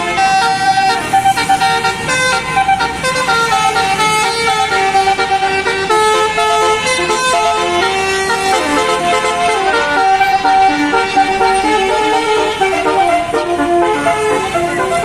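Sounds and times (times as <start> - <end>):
bus engine running low: 0.0 - 15.0
musical bus air horns: 0.0 - 15.0.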